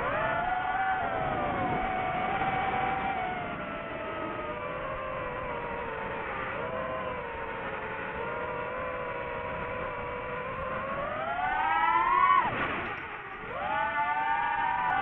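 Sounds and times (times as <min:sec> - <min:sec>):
drone propeller motors whining: 0:00.0 - 0:15.0.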